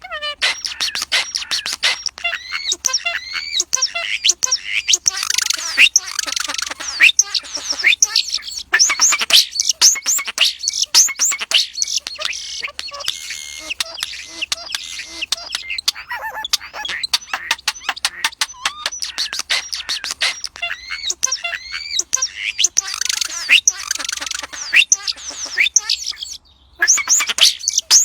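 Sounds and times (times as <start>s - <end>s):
birds chirping and singing: 0.0s - 28.0s.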